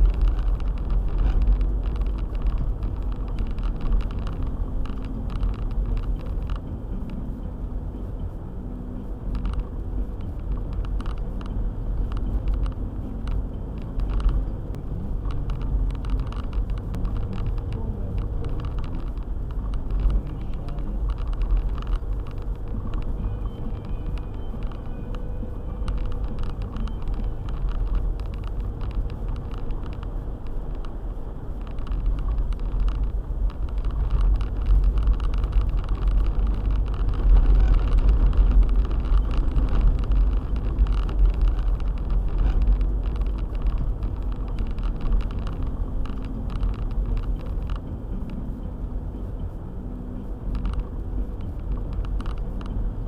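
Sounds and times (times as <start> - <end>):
faint ticks: 0.0 - 7.3, 9.1 - 53.0
car engine and tyres rumbling: 0.0 - 53.0.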